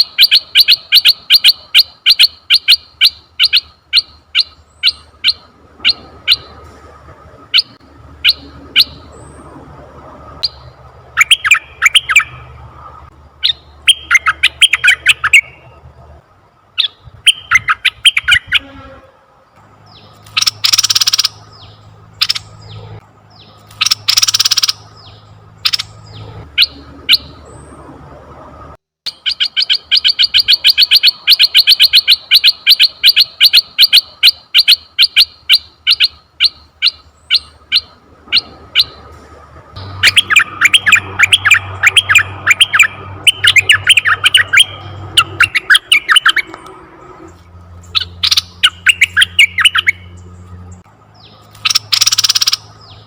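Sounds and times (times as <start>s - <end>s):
bird chattering: 0.0s - 6.6s, 7.6s - 9.2s, 10.4s - 12.5s, 13.4s - 15.6s, 16.8s - 18.6s, 19.9s - 27.4s, 29.1s - 39.0s, 39.8s - 46.6s, 47.8s - 50.2s, 51.3s - 53.0s
bird chirping: 0.0s - 6.8s, 7.4s - 9.8s, 10.4s - 15.9s, 16.7s - 19.0s, 19.6s - 28.1s, 29.1s - 39.2s, 39.8s - 53.0s.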